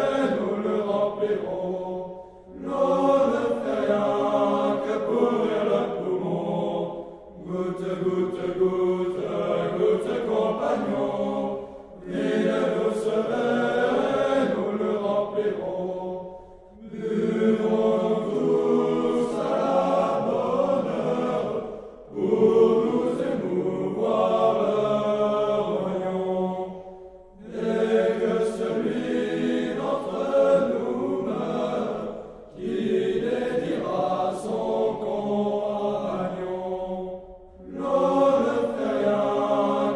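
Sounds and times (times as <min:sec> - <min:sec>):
group singing drinking song: 0:00.0 - 0:39.9.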